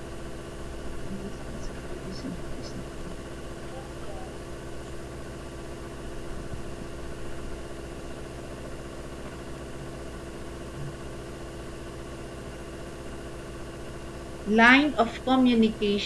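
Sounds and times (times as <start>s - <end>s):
machine hum with held tones: 0.0s - 16.0s.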